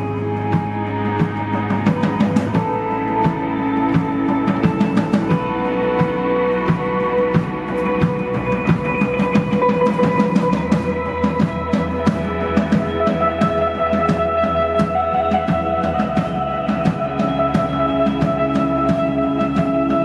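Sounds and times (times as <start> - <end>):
drum kit beating: 0.0 - 20.0
guitar and bass notes: 0.0 - 20.0.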